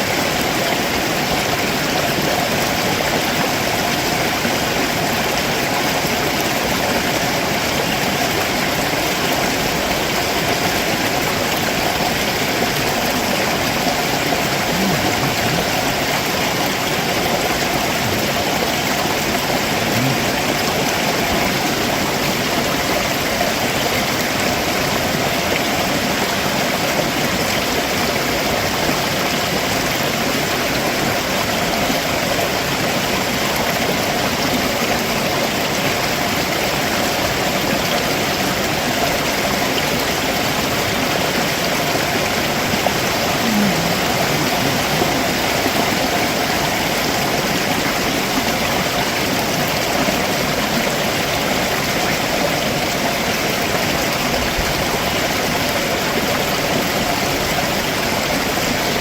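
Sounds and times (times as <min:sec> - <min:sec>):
stream water running over rocks: 0:00.0 - 0:59.0.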